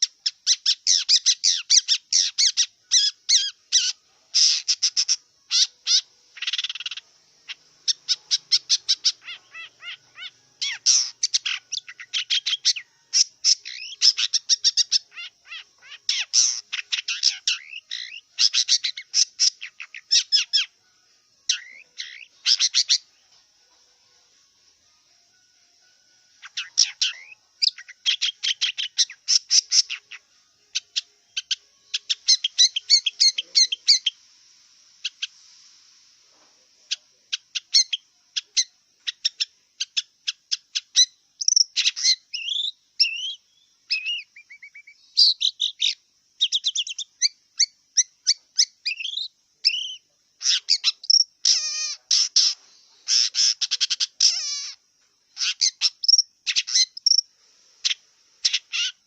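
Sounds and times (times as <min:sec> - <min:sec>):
shrike singing high chirps: 0:00.0 - 0:36.1, 0:36.8 - 0:59.0.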